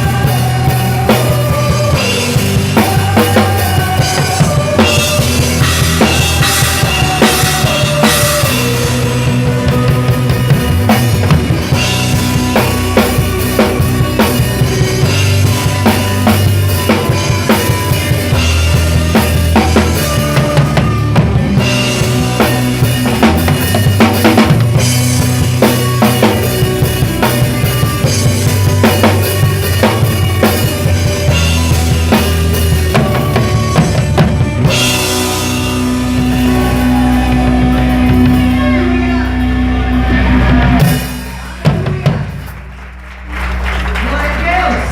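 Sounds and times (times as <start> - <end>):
drum kit played hard: 0.0 - 43.6
band chords: 0.0 - 44.9.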